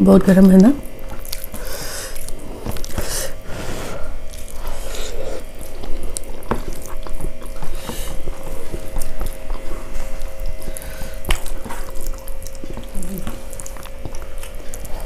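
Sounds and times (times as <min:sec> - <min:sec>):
chewing: 0:00.8 - 0:15.0
fingers squishing soft food: 0:00.8 - 0:15.0.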